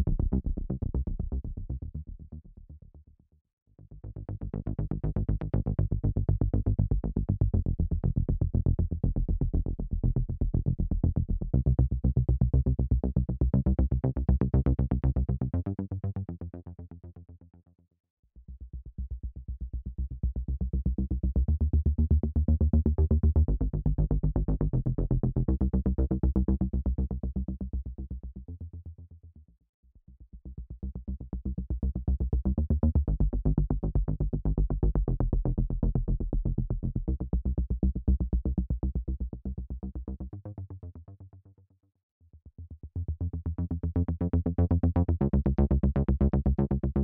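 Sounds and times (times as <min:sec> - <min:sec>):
pulsing low synth bass: 0:00.0 - 0:03.0, 0:03.9 - 0:16.8, 0:18.4 - 0:28.7, 0:30.0 - 0:41.2, 0:42.6 - 0:47.0.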